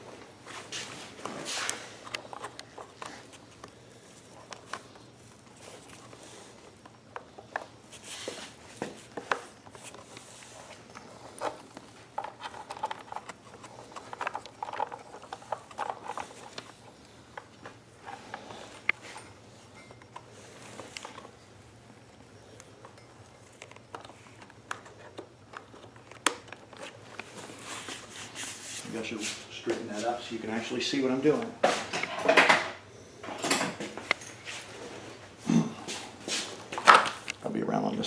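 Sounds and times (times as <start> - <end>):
wires and plastic rustling: 0.0 - 38.0.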